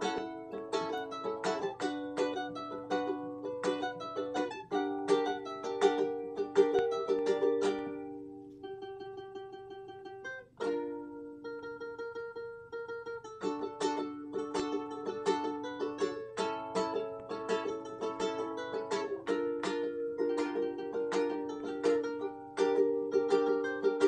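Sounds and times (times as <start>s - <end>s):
plucked string melody: 0.0s - 24.0s.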